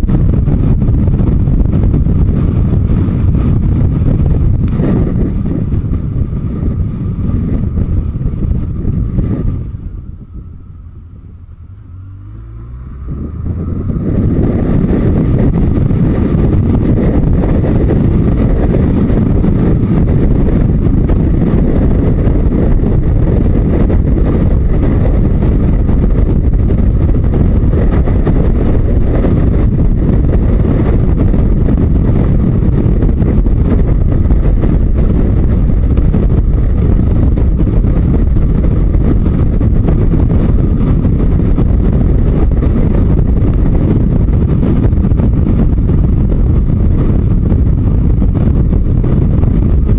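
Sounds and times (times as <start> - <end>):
motorcycle engine running: 0.0 - 49.9
wind rushing on microphone: 0.0 - 49.9.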